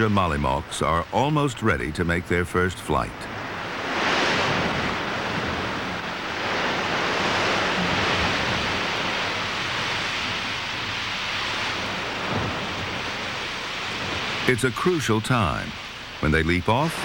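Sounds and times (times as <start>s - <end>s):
surf: 0.0s - 17.0s
wind: 0.0s - 17.0s.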